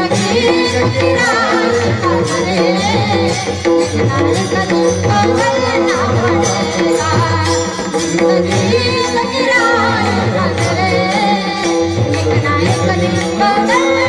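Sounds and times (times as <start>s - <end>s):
hand drum: 0.0s - 14.0s
jingling percussion: 0.0s - 14.0s
woman singing devotional song: 0.0s - 14.0s.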